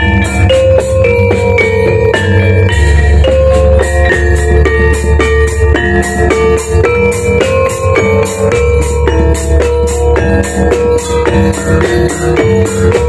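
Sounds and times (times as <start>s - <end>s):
drums: 0.0s - 13.0s
gamelan music over sound system: 0.0s - 13.0s
metallophones struck with mallets: 0.0s - 13.0s.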